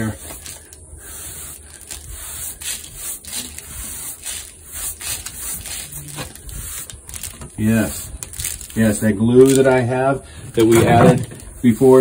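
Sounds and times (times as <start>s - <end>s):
sponge float scraping stucco: 0.0s - 9.9s, 10.5s - 12.0s.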